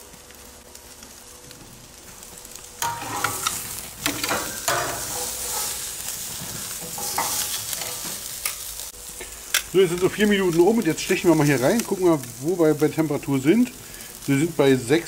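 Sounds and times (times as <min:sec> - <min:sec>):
steak sizzling on grill: 0:00.0 - 0:15.0.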